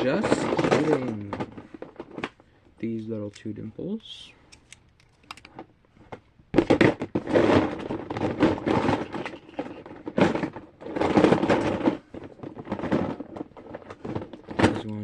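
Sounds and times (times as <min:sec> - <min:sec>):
plastic toys clattering together: 0:00.0 - 0:03.6, 0:06.6 - 0:15.0.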